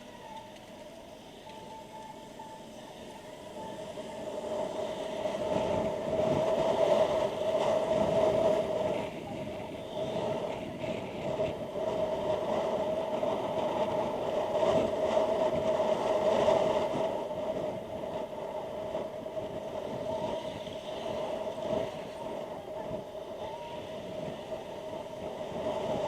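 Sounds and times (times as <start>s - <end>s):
motorcycle engine drone: 0.0s - 26.0s
rushing air and road noise: 0.0s - 26.0s.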